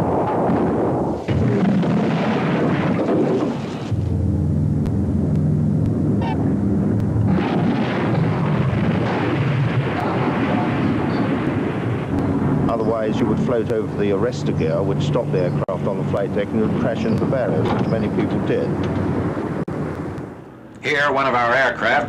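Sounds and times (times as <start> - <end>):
propeller aircraft engines rumbling: 0.0 - 22.0.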